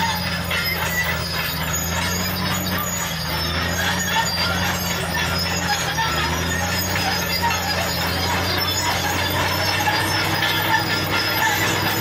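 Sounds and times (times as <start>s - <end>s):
bulldozer diesel engine running: 0.0s - 12.0s
steel tracks squeaking and clattering: 0.0s - 12.0s.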